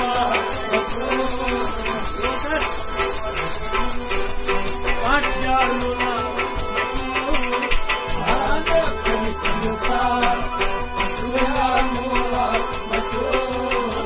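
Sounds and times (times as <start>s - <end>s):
shaken rattle percussion: 0.0s - 14.0s
sliding melody: 0.0s - 14.0s.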